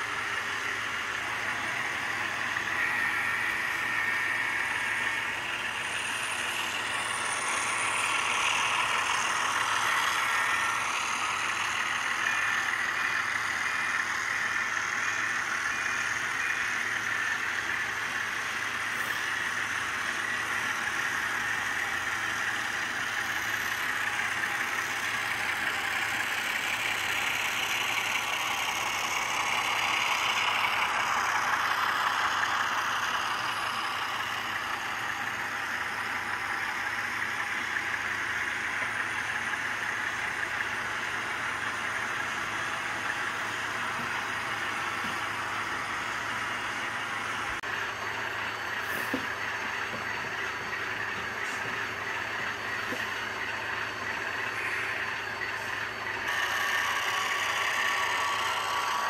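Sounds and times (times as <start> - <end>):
model train rolling over track: 0.0 - 59.0.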